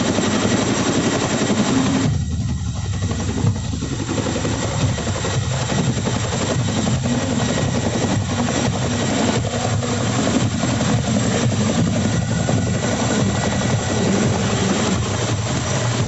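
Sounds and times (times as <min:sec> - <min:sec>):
helicopter rotors and turbines: 0:00.0 - 0:16.0.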